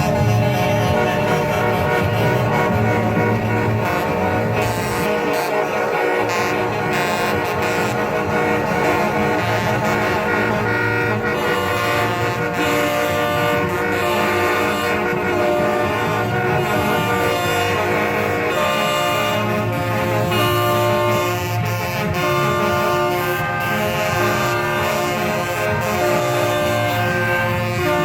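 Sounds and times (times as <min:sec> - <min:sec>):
truck air horns blaring: 0:00.0 - 0:28.0.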